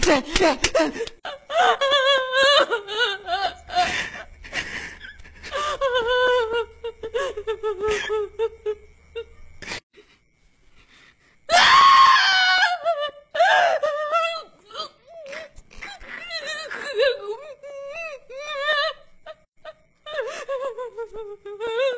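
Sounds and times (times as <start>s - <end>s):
woman wailing and crying: 0.0s - 4.2s, 5.2s - 9.3s, 11.5s - 21.9s.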